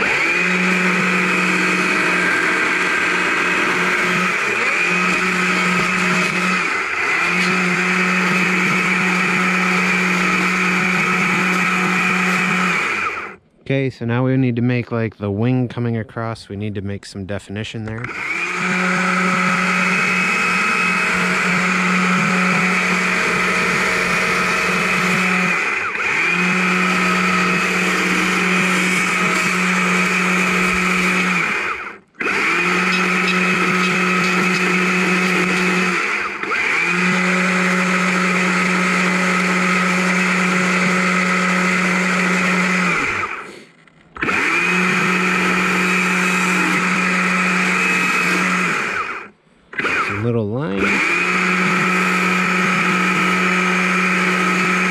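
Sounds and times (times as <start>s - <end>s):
chainsaw cutting log: 0.0s - 13.4s, 18.0s - 54.9s.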